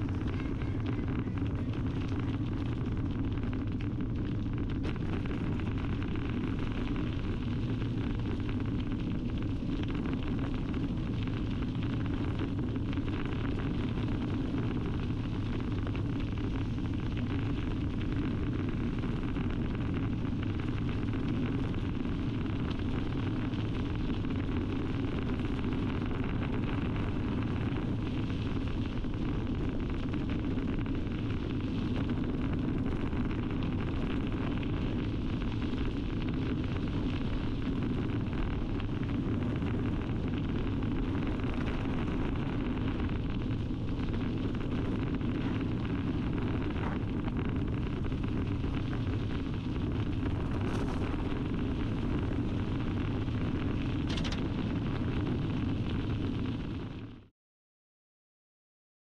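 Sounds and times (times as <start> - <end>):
bicycle tyre rolling on gravel: 0.0 - 57.3
wind noise on microphone: 0.0 - 57.3.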